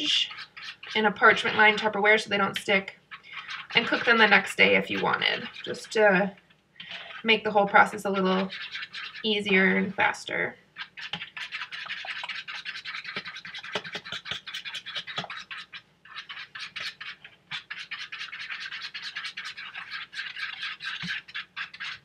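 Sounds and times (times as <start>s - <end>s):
fork whisking in a bowl: 0.0s - 22.0s.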